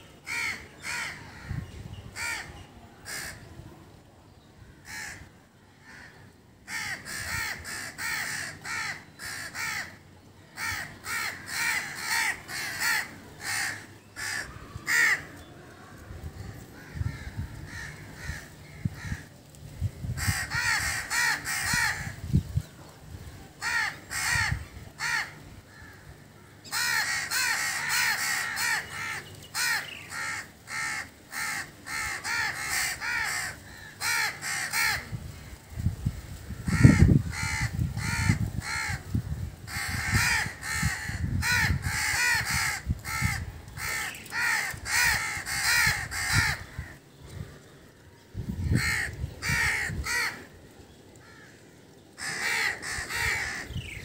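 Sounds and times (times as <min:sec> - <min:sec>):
crows cawing: 0:00.2 - 0:01.6, 0:02.2 - 0:03.5, 0:04.8 - 0:10.0, 0:10.6 - 0:19.3, 0:20.0 - 0:22.3, 0:23.6 - 0:35.6, 0:36.3 - 0:47.7, 0:48.4 - 0:54.0.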